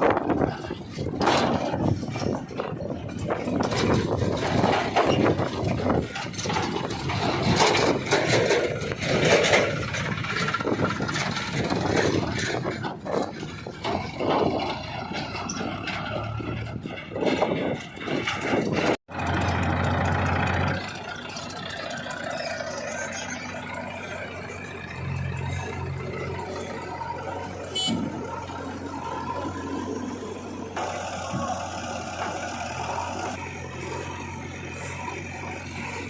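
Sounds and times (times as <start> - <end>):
backhoe loader diesel engine: 0.0 - 36.0
tractor engine running: 0.0 - 36.0.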